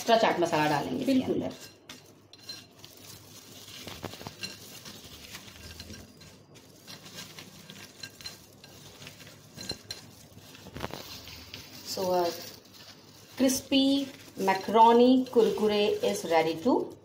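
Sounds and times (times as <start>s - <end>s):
spoon stirring fried macaroni: 0.0s - 17.0s.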